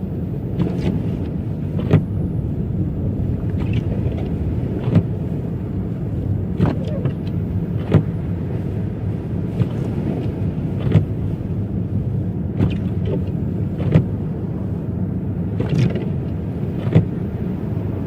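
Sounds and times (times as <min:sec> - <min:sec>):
car road rumble: 0:00.0 - 0:18.0.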